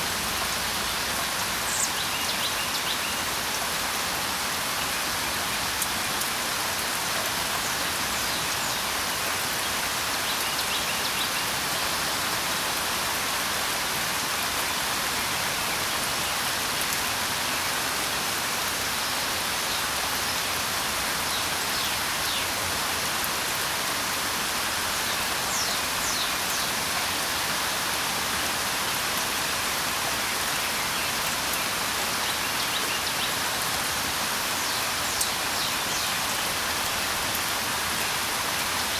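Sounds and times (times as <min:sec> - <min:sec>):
rain hissing on surfaces: 0:00.0 - 0:38.9.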